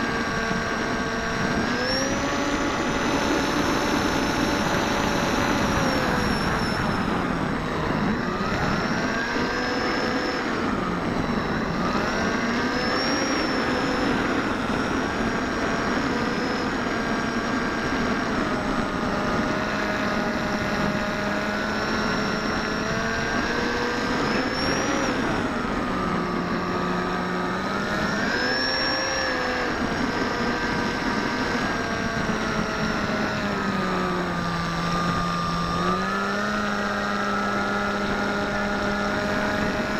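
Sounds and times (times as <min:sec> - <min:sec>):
electric motor whining drone: 0:00.0 - 0:39.9.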